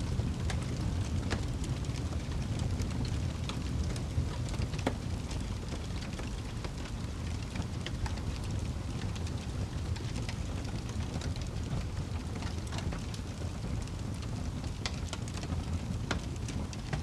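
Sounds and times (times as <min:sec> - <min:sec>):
fire low rumble: 0:00.0 - 0:17.0
campfire crackling and popping: 0:00.1 - 0:17.0.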